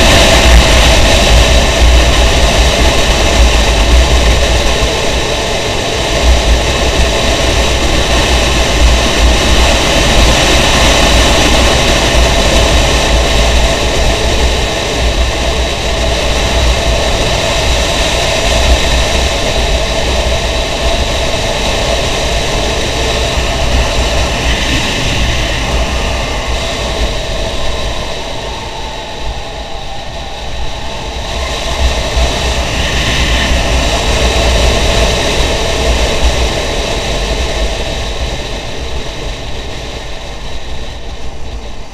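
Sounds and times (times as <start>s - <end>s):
road noise: 0.0s - 41.9s
wind buffeting microphone: 0.0s - 41.9s.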